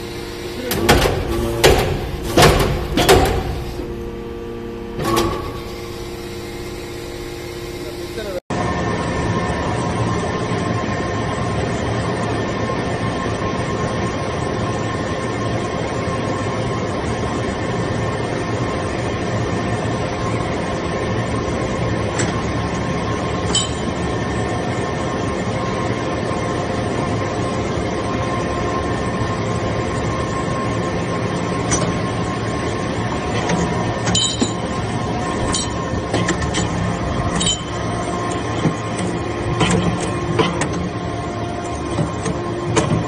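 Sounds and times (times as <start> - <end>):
press machine drone with whine: 0.0 - 43.0.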